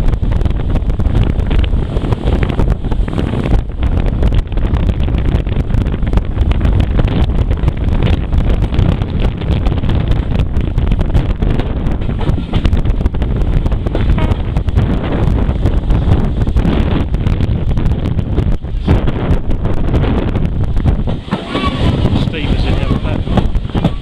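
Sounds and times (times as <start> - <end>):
train running noise: 0.0 - 24.0
wind buffeting microphone: 0.0 - 24.0.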